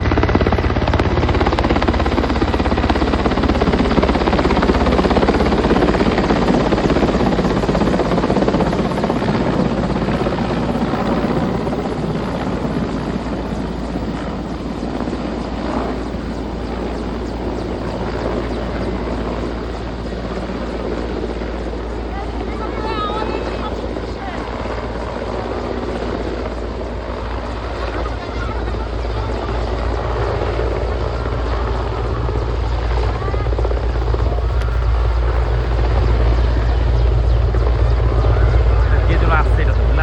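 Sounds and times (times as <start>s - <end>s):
helicopter rotor and engine: 0.0s - 40.0s.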